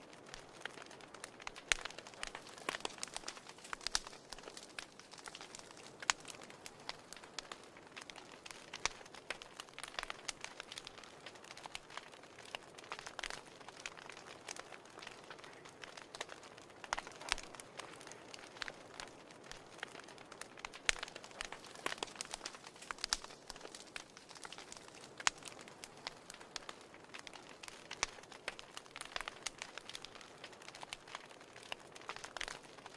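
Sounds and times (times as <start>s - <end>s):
soft hiss of flame: 0.0s - 32.9s
wood fire crackling and popping: 0.0s - 32.9s.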